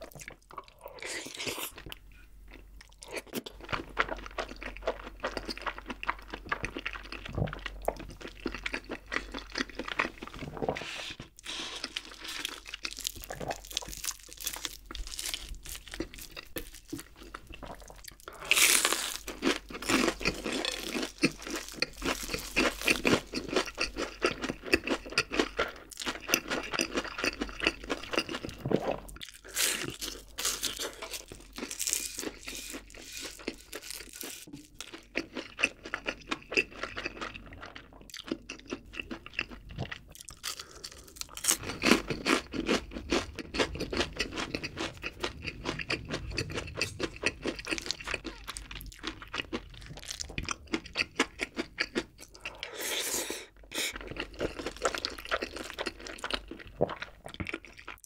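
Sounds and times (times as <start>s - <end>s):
chewing crispy fried crust: 0.0s - 10.7s, 11.4s - 58.0s.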